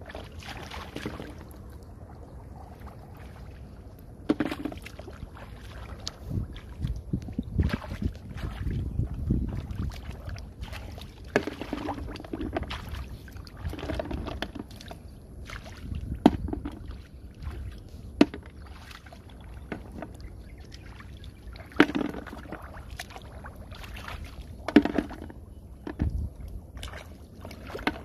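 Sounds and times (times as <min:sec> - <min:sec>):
muddy water sloshing and splashing: 0:00.0 - 0:28.0.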